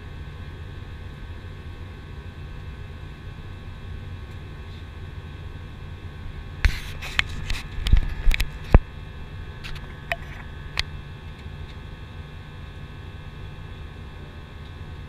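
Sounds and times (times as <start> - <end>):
jet engine and airflow drone: 0.0 - 15.0.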